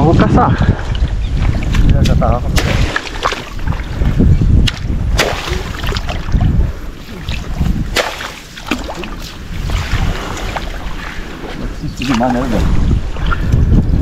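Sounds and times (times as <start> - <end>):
water splashing and sloshing: 0.0 - 14.0
wind rumbling on microphone: 0.0 - 14.0.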